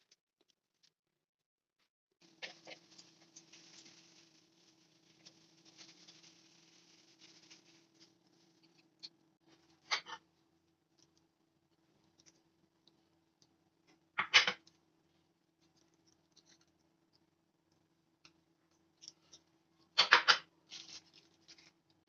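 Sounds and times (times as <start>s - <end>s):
faint steady hum: 2.2s - 22.0s.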